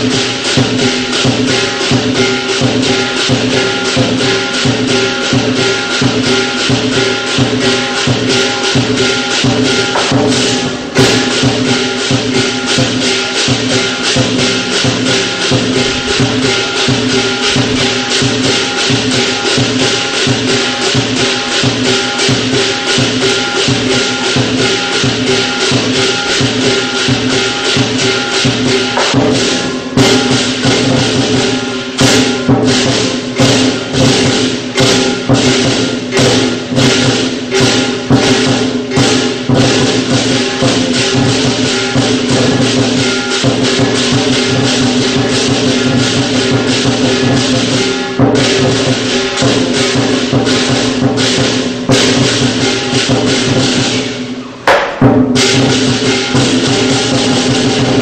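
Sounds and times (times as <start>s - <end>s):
cymbals ringing: 0.0s - 58.0s
drum beating: 0.0s - 58.0s
gong ringing: 0.0s - 58.0s.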